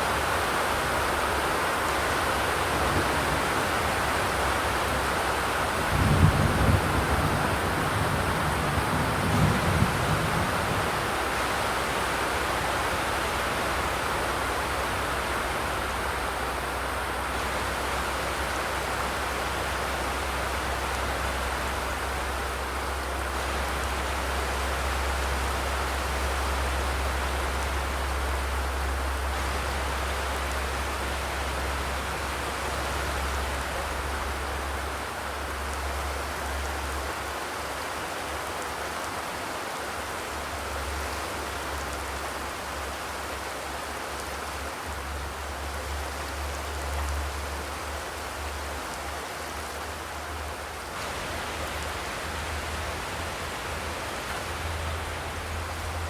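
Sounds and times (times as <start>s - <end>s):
rain drumming on a metal roof: 0.0s - 56.0s.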